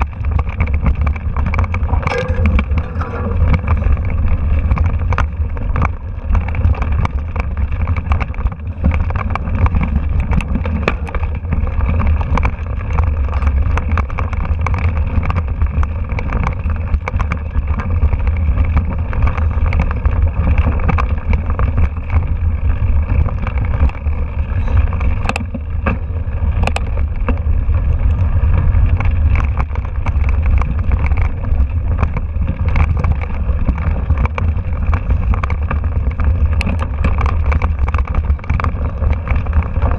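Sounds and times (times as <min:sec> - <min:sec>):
bike rattling over stones: 0:00.0 - 0:39.9
wind buffeting microphone: 0:00.0 - 0:39.9.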